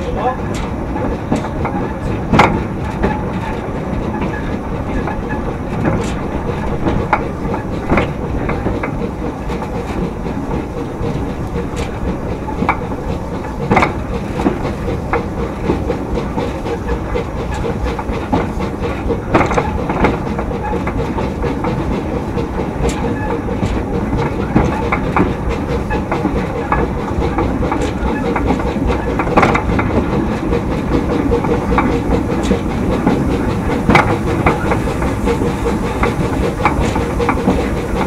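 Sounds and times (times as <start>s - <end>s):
train rumbling along track: 0.0s - 38.0s
wheels clicking over rail joints: 0.0s - 38.0s.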